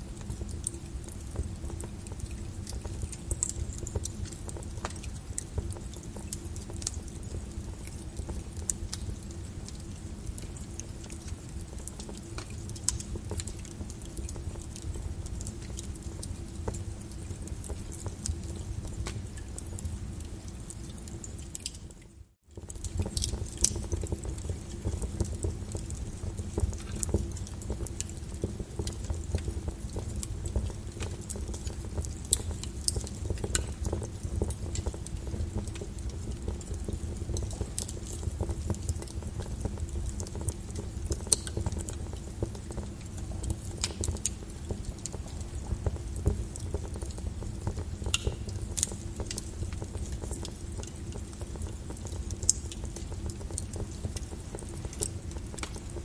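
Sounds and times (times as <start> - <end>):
rain hiss: 0.0 - 21.8, 22.6 - 56.0
wood fire crackling and popping: 0.0 - 56.0.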